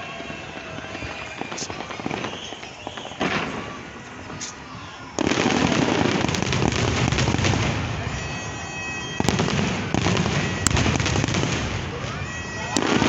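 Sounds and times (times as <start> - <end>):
fireworks crackling and booming: 0.0 - 13.0
sharp fireworks bangs: 0.0 - 13.0.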